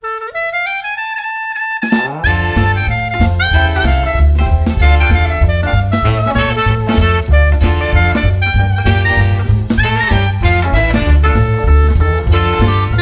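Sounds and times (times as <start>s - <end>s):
jazzy background music: 1.7s - 13.0s.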